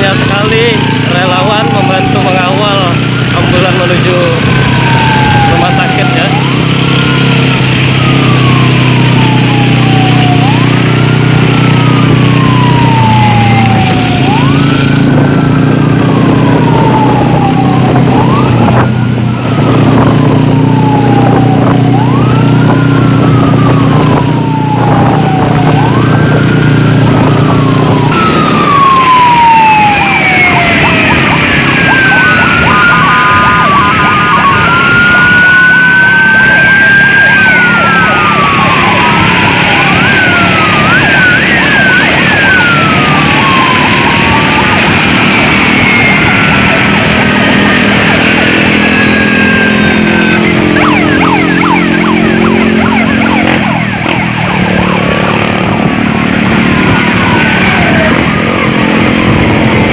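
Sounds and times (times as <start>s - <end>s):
engine hum: 0.0s - 59.9s
second siren: 0.0s - 59.9s
wailing emergency siren: 0.0s - 59.9s.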